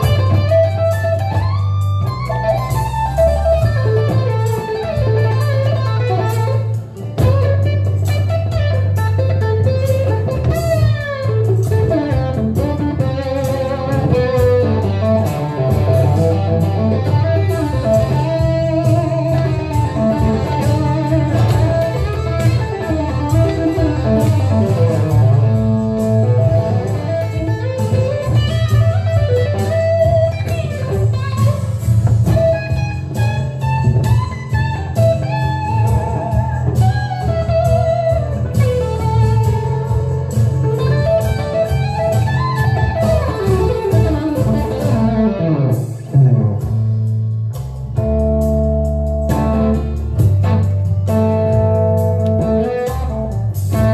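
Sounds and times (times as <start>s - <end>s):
electric guitar blues lead: 0.0s - 53.9s
low bass backing: 0.0s - 53.9s.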